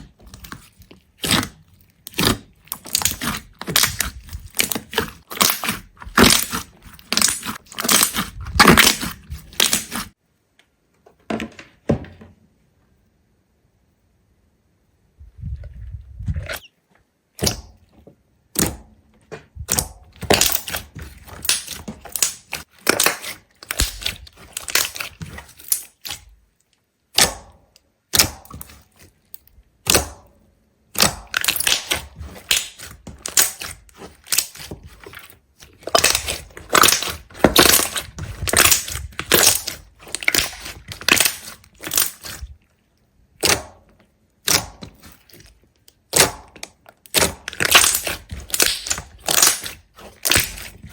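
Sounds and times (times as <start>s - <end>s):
crackling and crunching: 0.0s - 10.2s, 19.6s - 30.3s, 30.9s - 50.9s.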